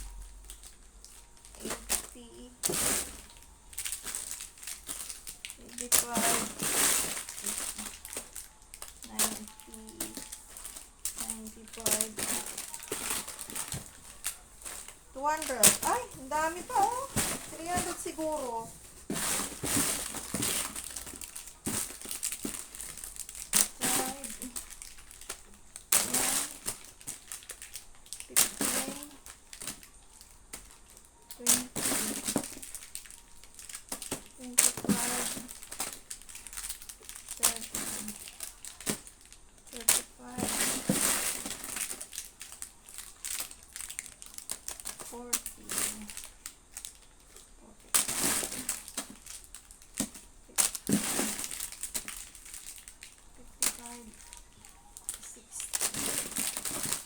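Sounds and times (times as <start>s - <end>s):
plastic wrappers crinkling: 0.0s - 57.0s.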